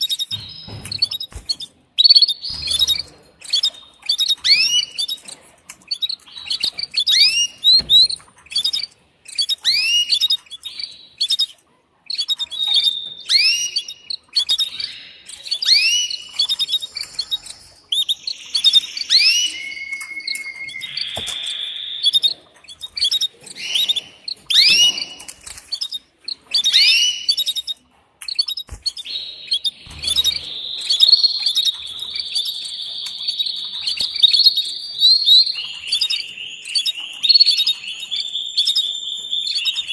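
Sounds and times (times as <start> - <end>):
canary chirping and trilling: 0.0 - 39.9.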